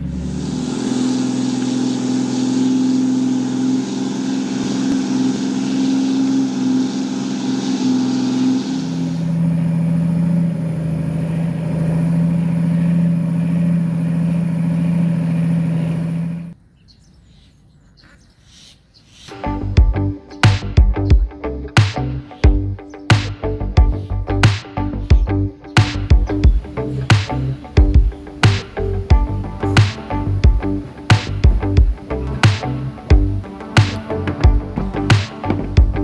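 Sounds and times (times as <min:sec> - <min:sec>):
engine running: 0:00.0 - 0:16.6, 0:19.3 - 0:36.0.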